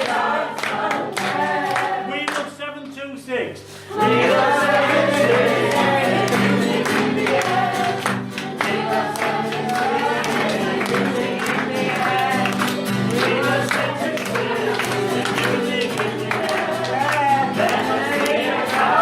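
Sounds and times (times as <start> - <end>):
group of voices singing: 0.0 - 2.5, 3.9 - 19.0.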